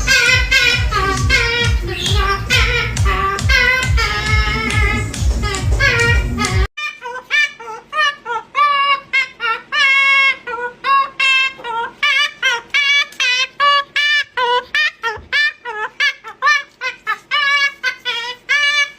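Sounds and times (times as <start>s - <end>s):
high-pitched voice singing: 0.0s - 18.9s.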